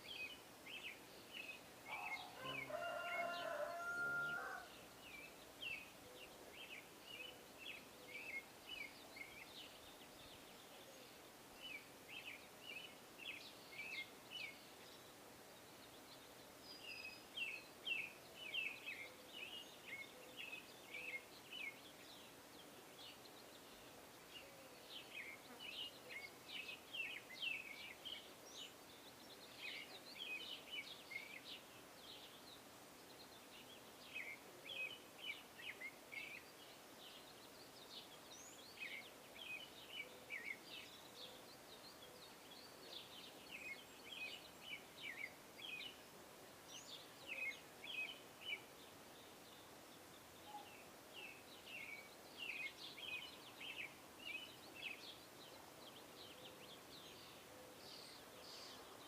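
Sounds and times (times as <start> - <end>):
faint songbirds chirping: 0.0 - 59.0.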